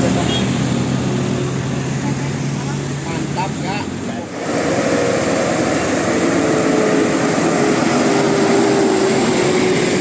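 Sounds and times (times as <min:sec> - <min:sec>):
bus engine droning: 0:00.0 - 0:10.0
road rumble: 0:00.0 - 0:10.0.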